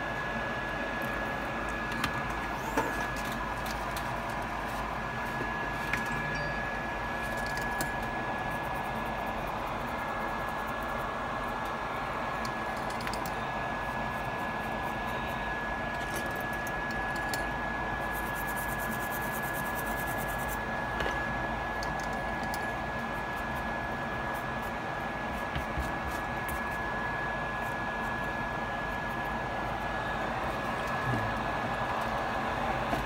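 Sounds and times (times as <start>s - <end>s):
blower hiss with high whine: 0.0s - 33.0s.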